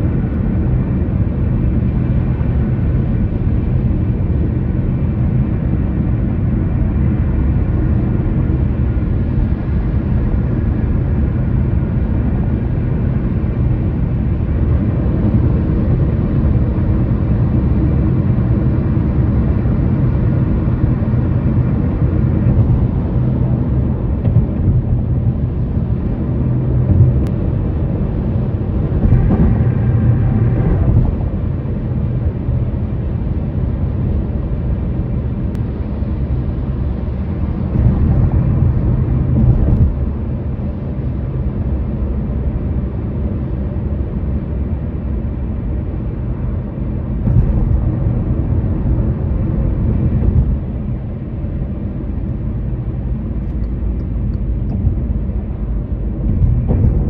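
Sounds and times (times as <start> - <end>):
vehicle tyres and engine rumble: 0.0 - 57.0.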